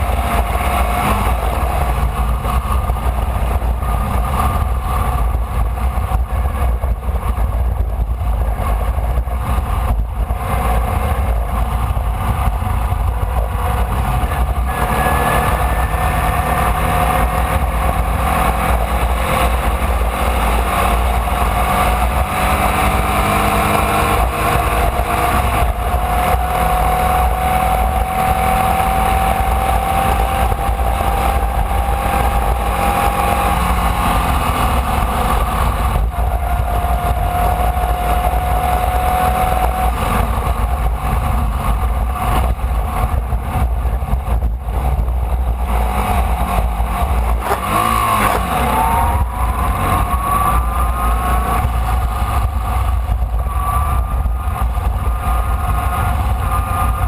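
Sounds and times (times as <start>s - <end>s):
low wind rumble: 0.0s - 57.0s
race car engine: 0.0s - 57.0s.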